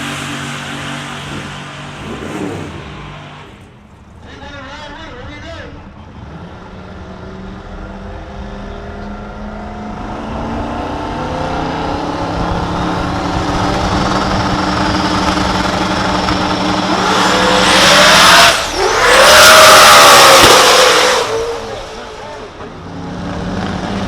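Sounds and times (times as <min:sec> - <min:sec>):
racing car engine revving: 0:00.0 - 0:03.8, 0:06.1 - 0:24.0.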